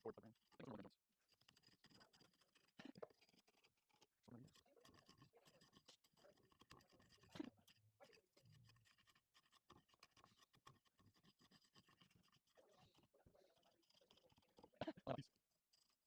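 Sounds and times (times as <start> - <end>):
faint scratching with light clicks: 0.1 - 16.0.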